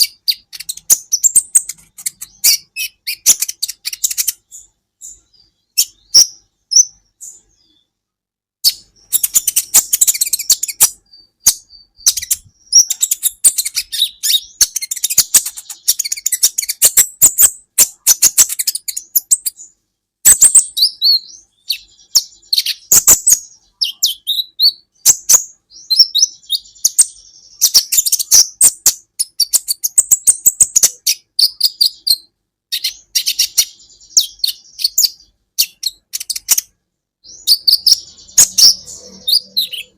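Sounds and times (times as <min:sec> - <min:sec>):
sunbird twittering song: 0:00.0 - 0:08.0, 0:08.6 - 0:39.9.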